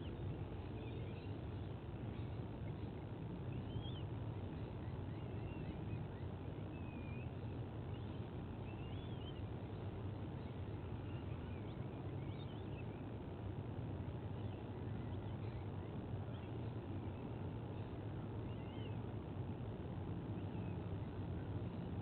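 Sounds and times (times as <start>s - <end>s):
faint high bird chirps: 0.0s - 13.1s, 14.4s - 19.1s
low wind rumble: 0.0s - 22.0s.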